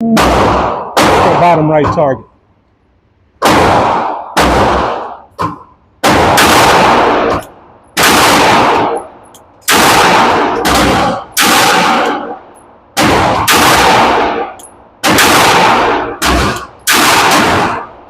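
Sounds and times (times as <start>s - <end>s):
pistol shots: 0.1s - 1.8s, 3.4s - 18.0s.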